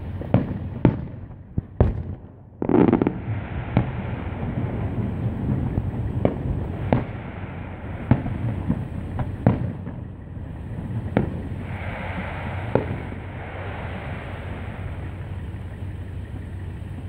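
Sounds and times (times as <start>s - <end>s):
firework shells bursting: 0.0s - 17.0s
steady low rumble: 0.0s - 17.0s.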